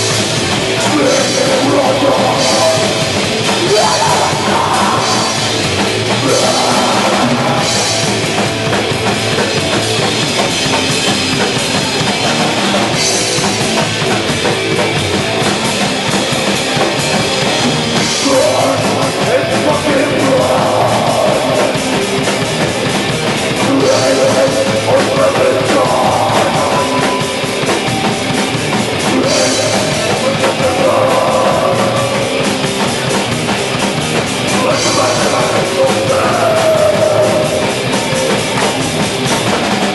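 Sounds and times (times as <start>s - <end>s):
punk band playing fast song: 0.0s - 39.9s.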